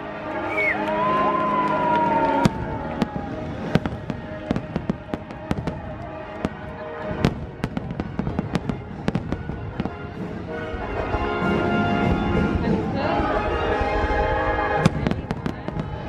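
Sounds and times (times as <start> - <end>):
fireworks exploding: 1.0 - 16.0.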